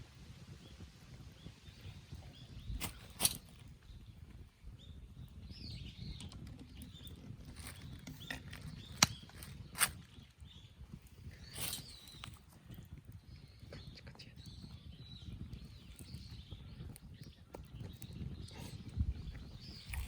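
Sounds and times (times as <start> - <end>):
faint birdsong chirping: 0.0 - 20.0.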